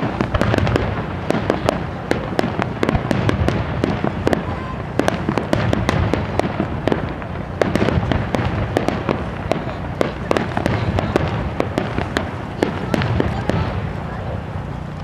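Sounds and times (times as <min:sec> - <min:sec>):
continuous low rumble: 0:00.0 - 0:15.0
fireworks bangs and crackling: 0:00.0 - 0:15.0.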